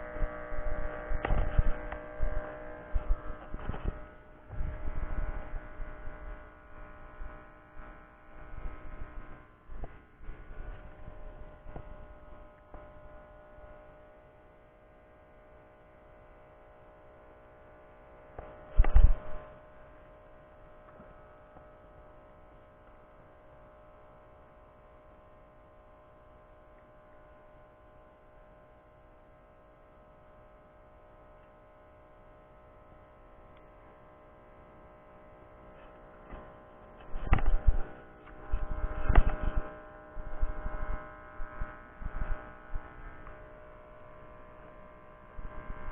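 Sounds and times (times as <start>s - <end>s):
steady hum of held tones: 0.0s - 45.9s.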